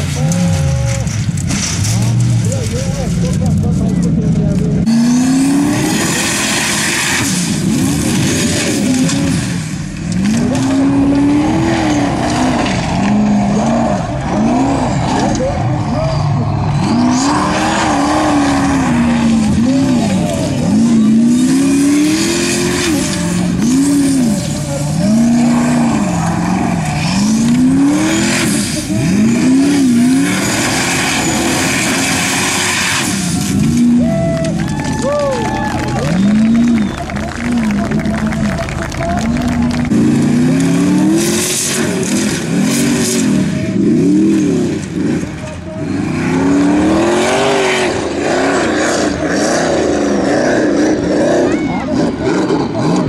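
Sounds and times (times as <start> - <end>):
buggy engine revving: 0.0 - 53.0.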